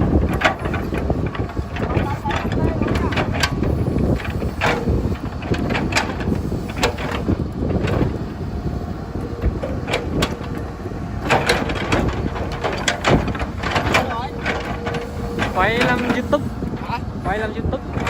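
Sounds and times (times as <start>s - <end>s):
excavator engine rumble: 0.0s - 18.0s
metallic clanks and knocks: 0.2s - 8.0s, 9.4s - 10.6s, 11.2s - 18.0s.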